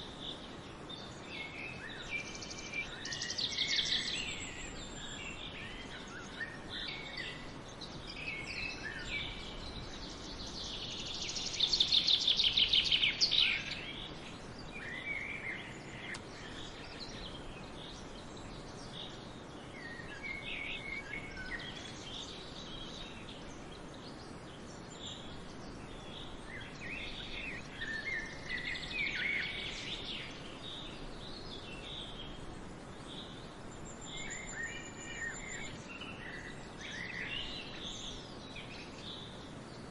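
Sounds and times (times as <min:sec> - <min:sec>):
outdoor background hiss: 0:00.0 - 0:39.9
rapid trilling birdsong: 0:00.0 - 0:39.9
songbirds chirping and singing: 0:00.0 - 0:39.9.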